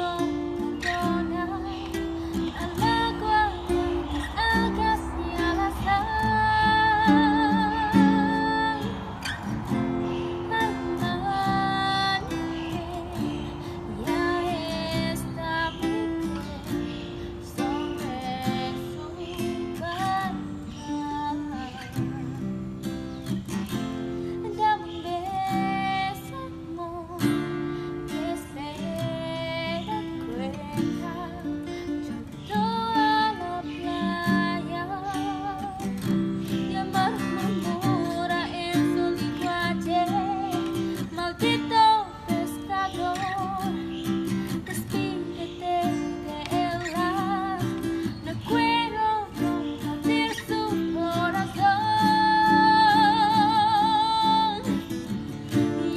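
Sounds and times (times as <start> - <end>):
acoustic guitar plucked melody: 0.0 - 55.9.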